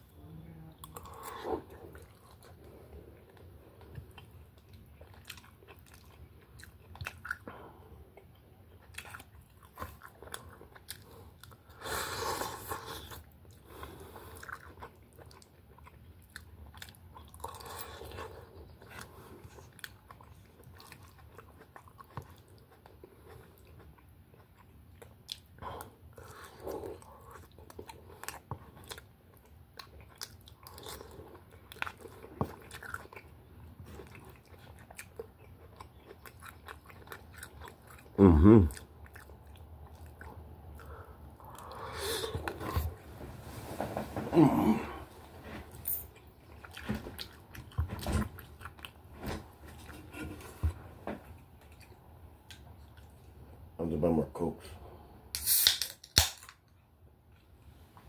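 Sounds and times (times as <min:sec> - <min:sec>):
man chewing food: 0:00.7 - 0:53.7.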